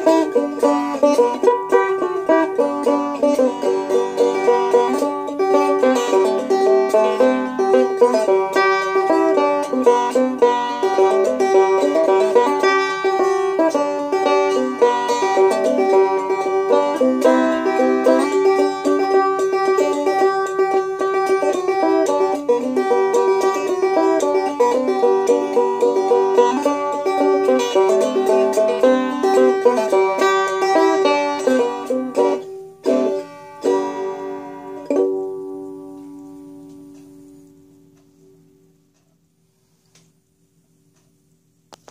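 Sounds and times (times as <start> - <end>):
banjo plucked melody: 0.0 - 38.5.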